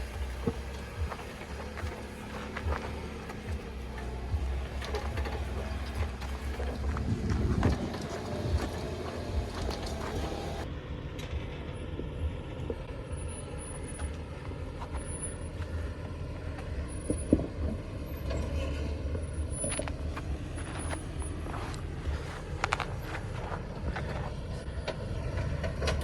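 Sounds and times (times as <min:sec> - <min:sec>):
off-road vehicle engine crawling: 0:00.0 - 0:26.0.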